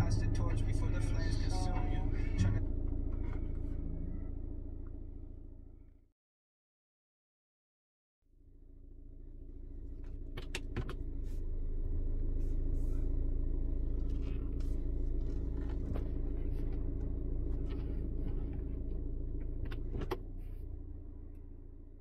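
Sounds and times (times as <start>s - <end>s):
car engine idling: 0.0s - 6.0s, 8.4s - 22.0s.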